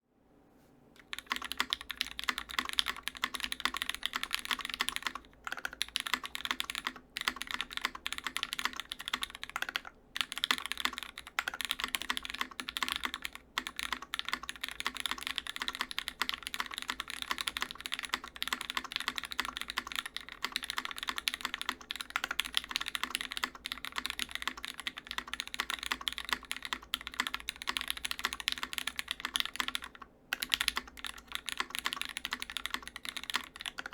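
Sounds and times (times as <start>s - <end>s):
fast mechanical keyboard typing: 1.0s - 33.9s.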